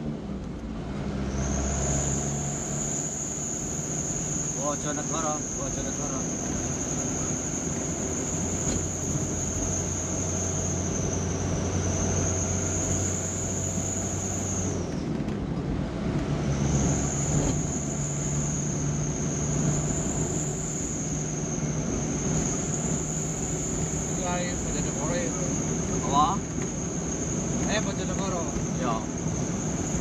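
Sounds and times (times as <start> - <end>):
vehicle engine and road noise: 0.0 - 30.0
steady high whine: 1.4 - 15.0, 16.4 - 30.0.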